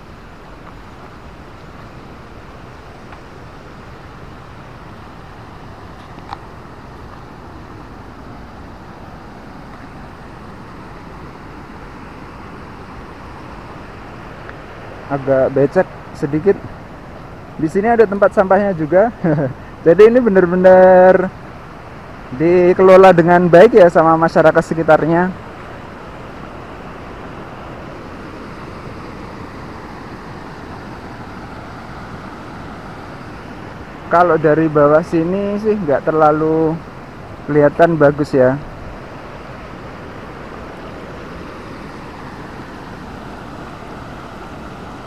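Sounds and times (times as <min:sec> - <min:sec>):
river and waterfall rushing: 0:00.0 - 0:45.0.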